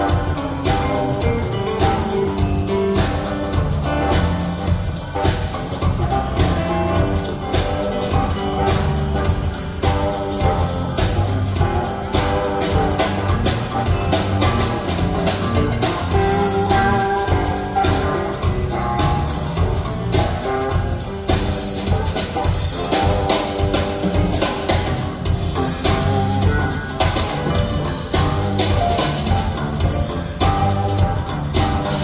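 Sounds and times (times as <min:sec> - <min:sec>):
drum kit steady beat: 0:00.0 - 0:32.0.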